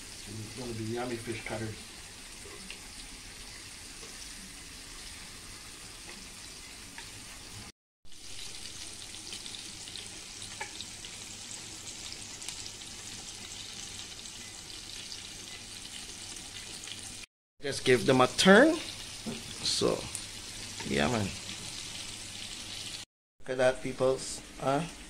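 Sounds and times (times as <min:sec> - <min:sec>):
fish frying in oil: 0:00.0 - 0:23.1.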